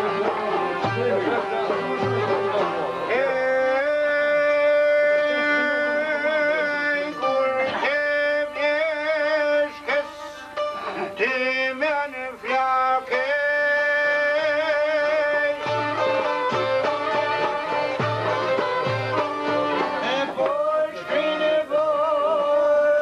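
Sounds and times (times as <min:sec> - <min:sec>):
man singing folk song: 0:00.0 - 0:18.4, 0:19.1 - 0:23.0
plucked lutes: 0:00.0 - 0:23.0.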